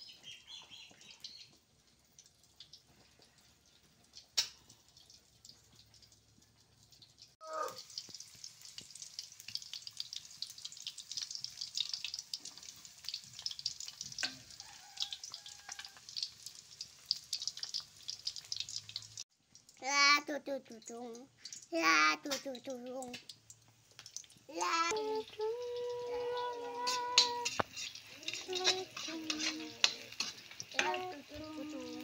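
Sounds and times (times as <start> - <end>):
egg sizzling in hot oil: 0.0 - 32.0.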